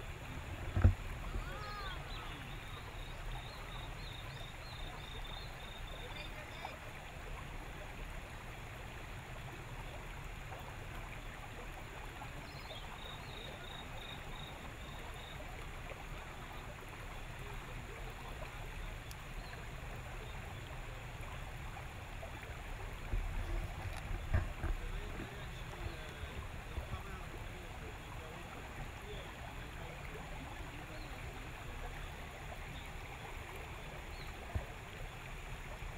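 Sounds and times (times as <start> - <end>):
water lapping against boat hull: 0.0 - 6.8, 9.5 - 35.9.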